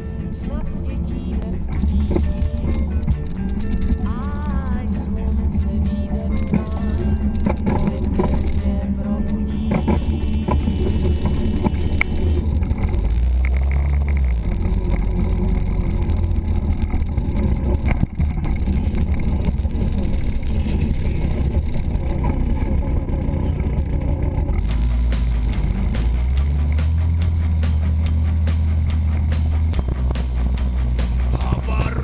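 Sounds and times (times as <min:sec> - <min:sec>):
moped engine running: 0:00.0 - 0:32.0.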